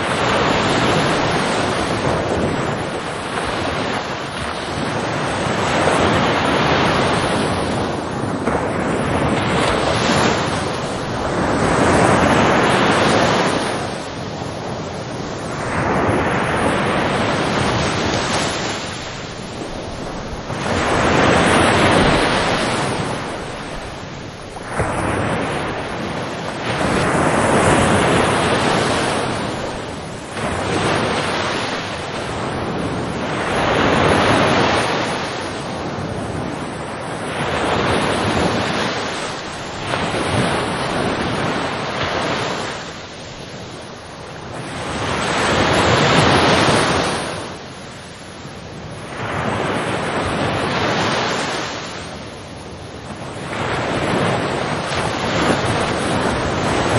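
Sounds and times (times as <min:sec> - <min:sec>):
ocean waves surging and washing back: 0:00.0 - 0:56.9.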